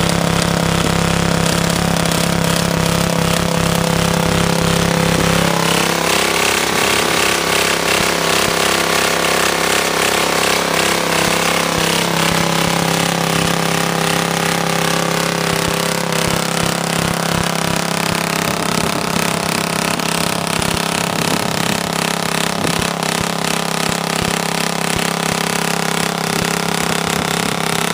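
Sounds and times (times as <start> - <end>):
tiller engine running: 0.0 - 27.9.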